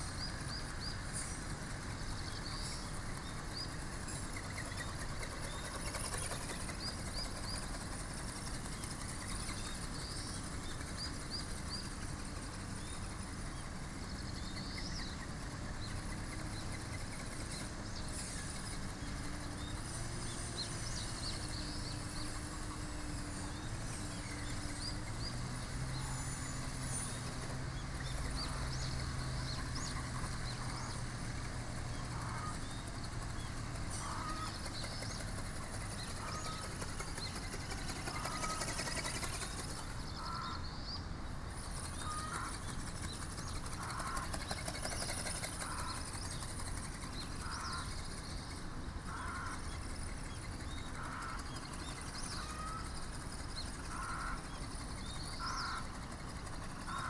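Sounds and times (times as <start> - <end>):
low steady hum: 0.0 - 57.0
small birds chirping: 0.0 - 57.0.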